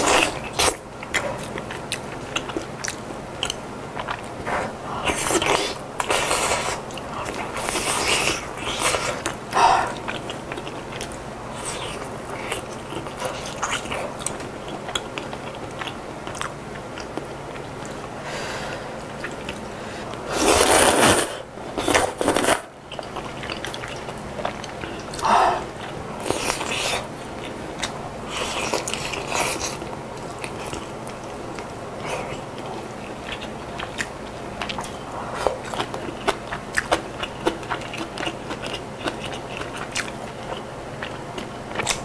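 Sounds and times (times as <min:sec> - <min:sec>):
chewing and slurping noodles: 0:00.0 - 0:18.0, 0:19.1 - 0:42.0.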